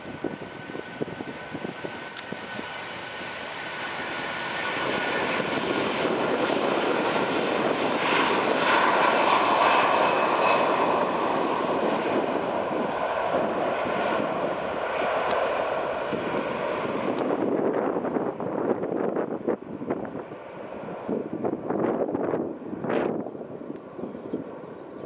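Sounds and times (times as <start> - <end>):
jet engines roaring on take-off: 0.0 - 25.0.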